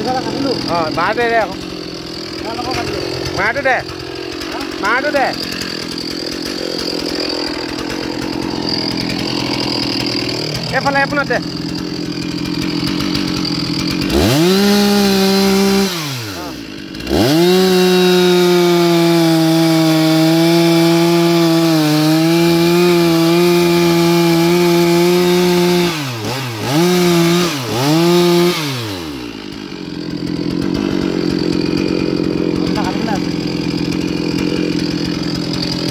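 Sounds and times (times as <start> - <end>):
chainsaw cutting into trunk: 0.0 - 35.9.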